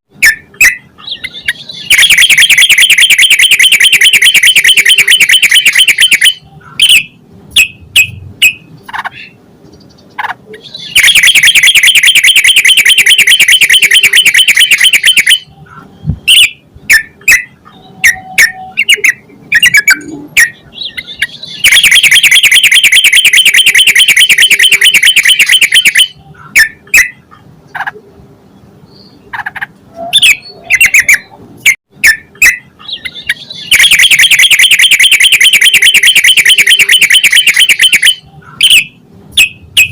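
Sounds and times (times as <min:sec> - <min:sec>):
bird chirps: 0:00.2 - 0:27.4, 0:30.0 - 0:31.4, 0:32.0 - 0:39.9
bird chattering song: 0:00.2 - 0:28.0, 0:28.6 - 0:31.4, 0:32.0 - 0:39.9.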